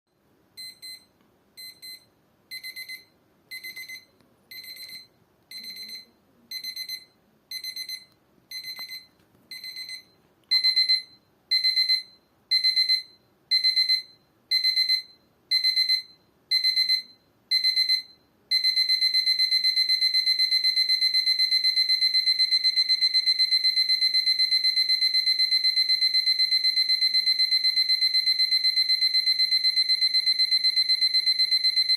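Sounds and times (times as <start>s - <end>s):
alarm clock beeping: 0.6s - 31.9s.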